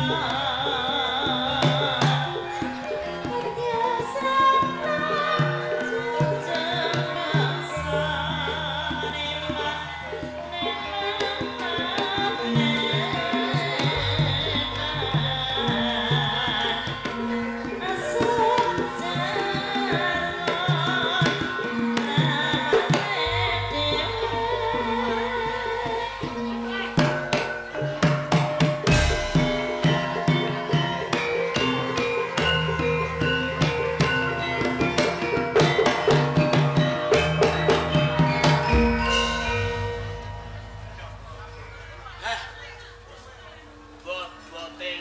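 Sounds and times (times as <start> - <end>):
hand drum strokes: 0.0 - 42.3
ringing metal tones: 0.0 - 43.6.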